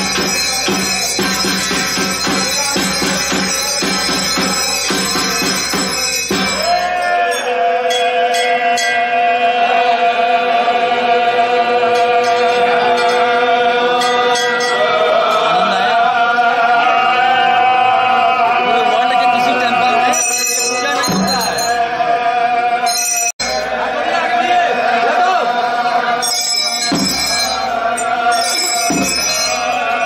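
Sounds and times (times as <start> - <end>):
men chanting together: 0.0 - 20.2, 21.0 - 30.0.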